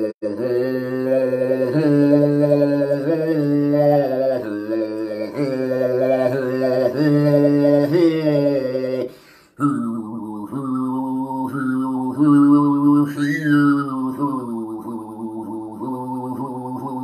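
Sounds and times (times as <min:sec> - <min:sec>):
man overtone singing: 0:00.0 - 0:17.0.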